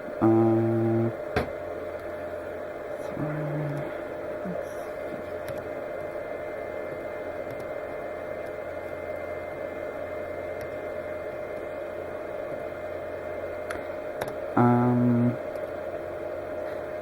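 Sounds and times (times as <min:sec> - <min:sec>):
loud steady whine: 0:00.0 - 0:17.0
steady hum and hiss: 0:00.0 - 0:17.0.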